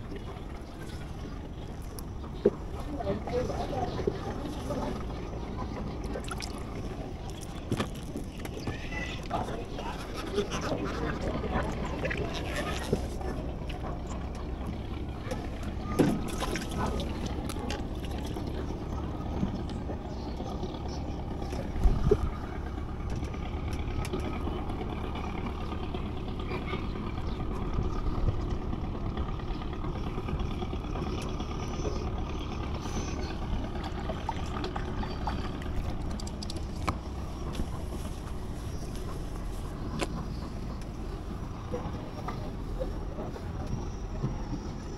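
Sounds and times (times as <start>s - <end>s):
boat motor droning: 0.0s - 44.9s.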